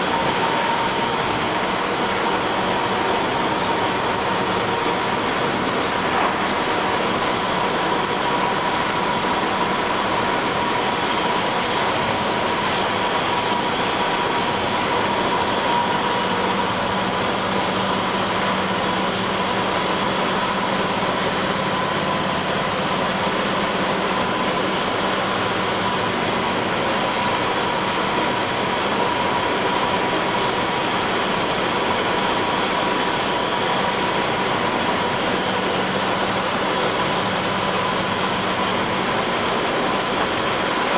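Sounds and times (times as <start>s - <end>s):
bus body rattling and clicking: 0.0s - 40.9s
bus diesel engine running: 0.0s - 40.9s
road noise: 0.0s - 40.9s
steady whine: 0.0s - 40.9s.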